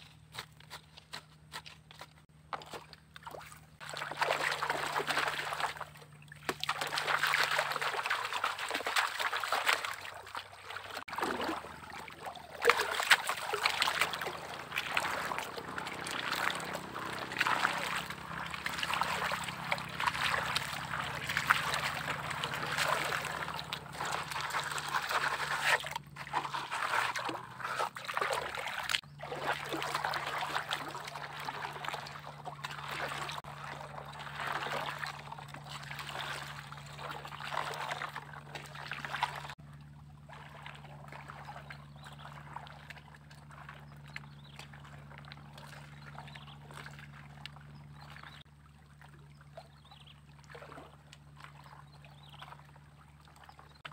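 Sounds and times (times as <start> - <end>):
low hum: 0.0 - 53.8
water sloshing in a plastic pan: 1.5 - 53.9.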